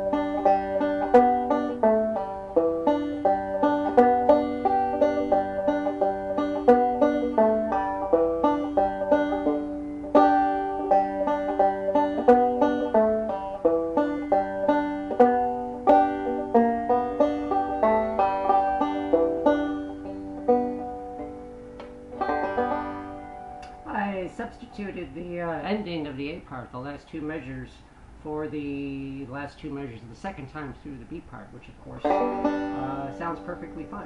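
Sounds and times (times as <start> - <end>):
banjo playing a fiddle tune: 0.0 - 26.1, 32.0 - 34.0.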